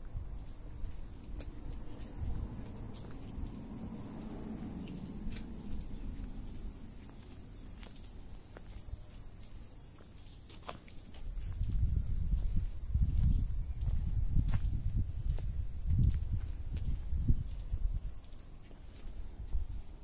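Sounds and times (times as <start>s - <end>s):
faint footsteps: 0.0s - 20.0s
high insect chorus chirring: 0.0s - 20.0s.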